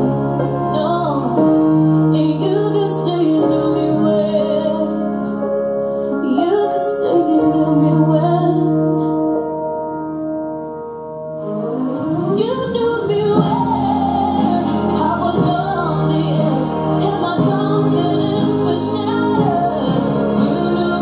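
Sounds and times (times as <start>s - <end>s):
woman singing pop song: 0.0s - 9.4s, 12.1s - 21.0s
keyboard chords: 0.0s - 21.0s.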